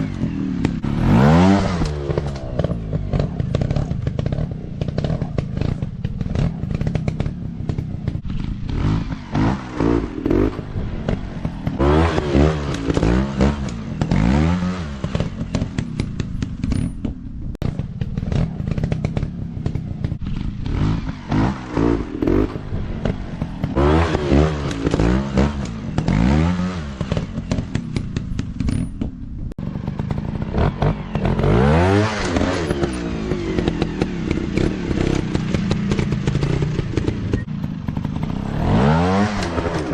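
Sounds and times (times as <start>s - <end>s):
dirt bike engine revving: 0.0s - 16.9s, 17.6s - 28.9s, 29.6s - 39.9s
knocks and clatter: 0.1s - 39.9s.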